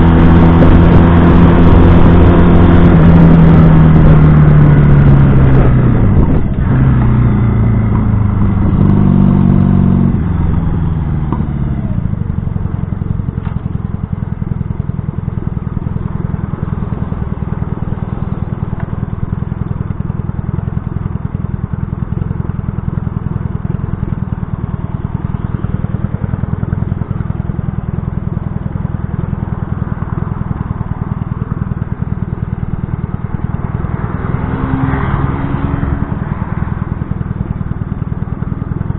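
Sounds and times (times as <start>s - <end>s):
motorcycle engine slowing and idling: 0.0s - 38.9s.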